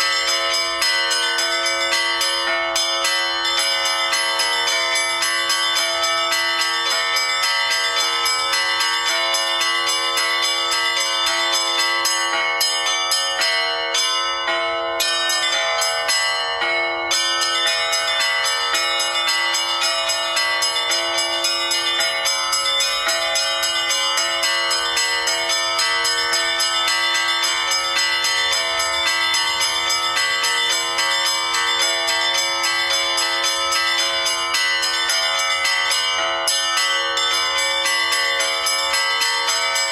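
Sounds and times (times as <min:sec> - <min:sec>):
bells ringing rapidly: 0:00.0 - 0:39.9.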